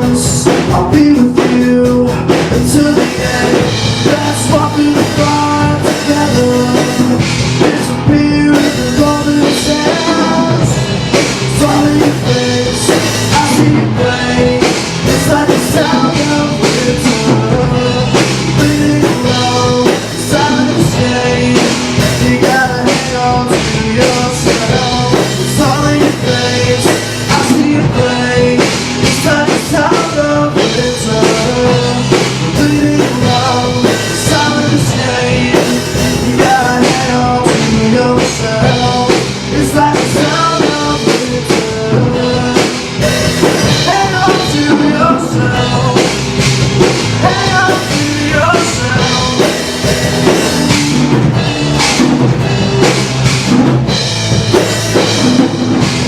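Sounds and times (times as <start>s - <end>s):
man singing: 0.0s - 55.6s
rock band playing: 0.0s - 56.0s.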